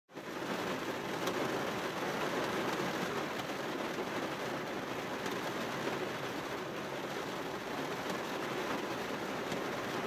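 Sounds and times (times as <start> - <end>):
rain on car window: 0.1 - 10.0.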